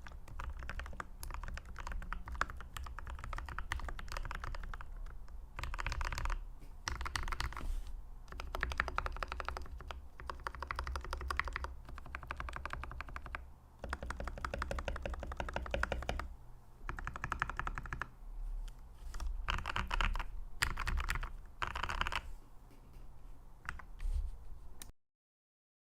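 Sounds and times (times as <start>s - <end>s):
mechanical keyboard typing: 0.0s - 7.6s, 8.3s - 18.1s, 19.1s - 22.3s, 23.6s - 23.9s.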